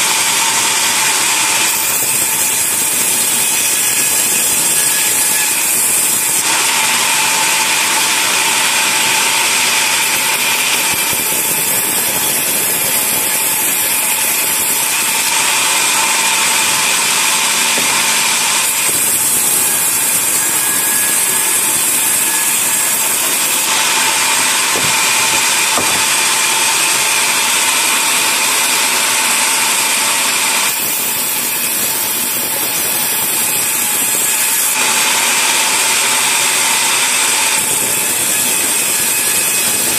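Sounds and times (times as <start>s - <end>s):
bandsaw cutting log: 0.0s - 39.9s.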